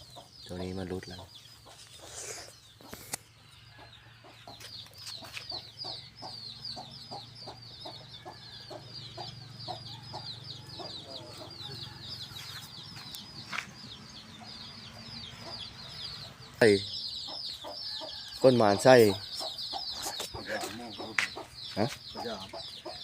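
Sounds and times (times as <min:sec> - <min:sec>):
chickens clucking: 0:00.0 - 0:23.0
rapid high-pitched chirping: 0:04.5 - 0:23.0.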